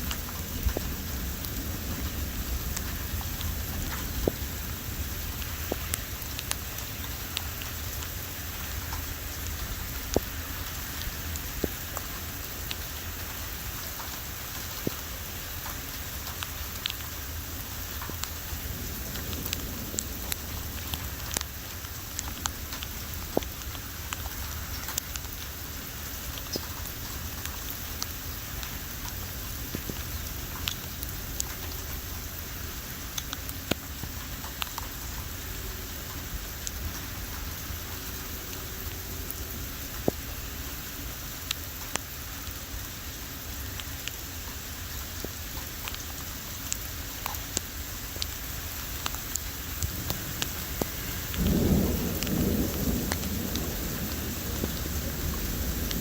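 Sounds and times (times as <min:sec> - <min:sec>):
raindrops tapping nearby: 0:00.0 - 0:56.0
steady rain falling: 0:00.0 - 0:56.0.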